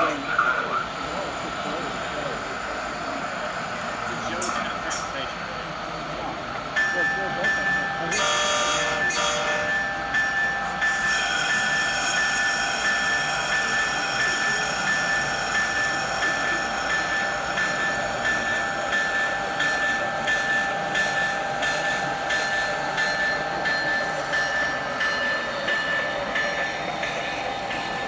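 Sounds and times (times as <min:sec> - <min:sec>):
model train whine: 0:00.0 - 0:28.0
regular clicking of train: 0:00.0 - 0:28.0.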